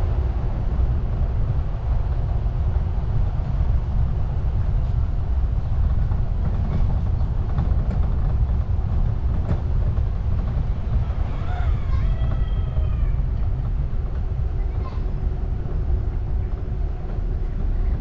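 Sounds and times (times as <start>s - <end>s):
car driving low rumble: 0.0s - 18.0s.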